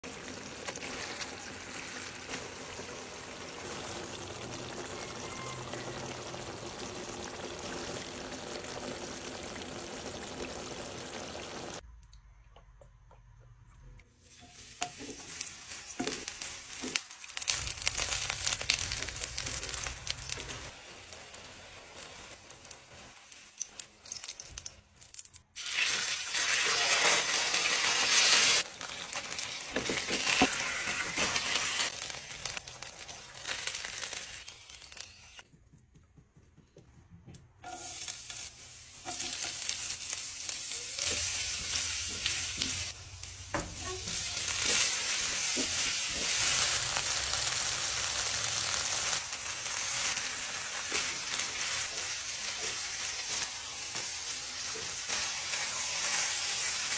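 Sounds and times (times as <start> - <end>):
food sizzling in hot oil: 0.0 - 11.8, 14.2 - 35.4, 37.6 - 56.9.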